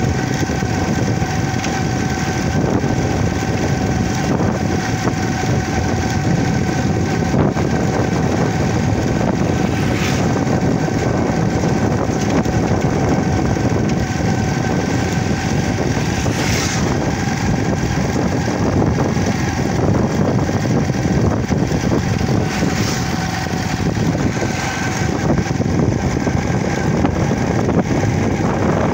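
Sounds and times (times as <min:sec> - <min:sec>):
road and wind noise: 0:00.0 - 0:28.9
vehicle engine running: 0:00.0 - 0:28.9.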